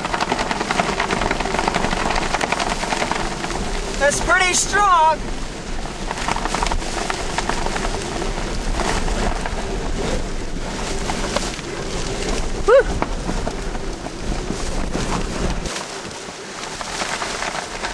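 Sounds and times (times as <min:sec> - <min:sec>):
wind and rain on microphone: 0:00.0 - 0:17.9.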